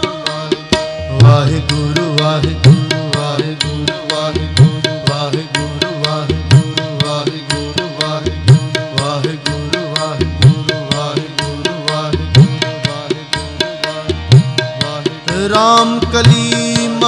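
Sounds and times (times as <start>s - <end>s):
sustained melodic accompaniment: 0.0s - 17.0s
tabla playing fast rhythm: 0.0s - 17.0s.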